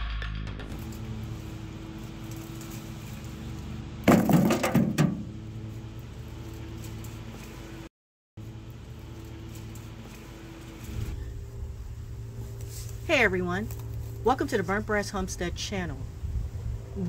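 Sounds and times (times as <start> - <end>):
low mechanical hum: 0.5 - 17.0.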